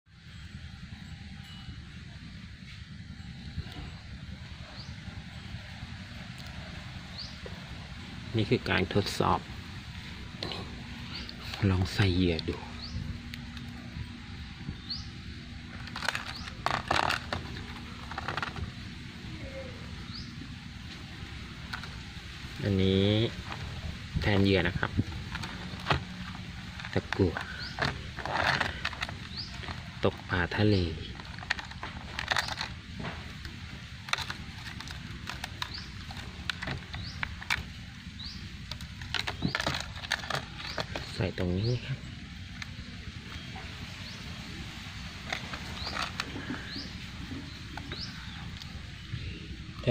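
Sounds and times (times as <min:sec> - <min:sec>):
steady low rumble: 0:00.1 - 0:49.9
fishing tackle rustling and scraping: 0:03.6 - 0:19.2, 0:20.0 - 0:49.9.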